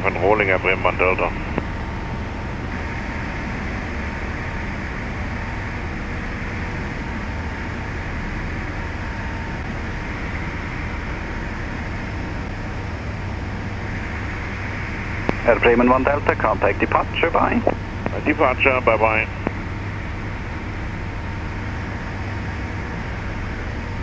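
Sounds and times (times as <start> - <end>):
light aircraft engine droning: 0.0 - 24.0.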